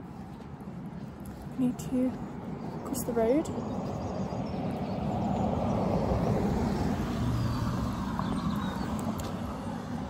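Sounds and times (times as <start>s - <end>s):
vehicle passing: 1.3s - 10.0s.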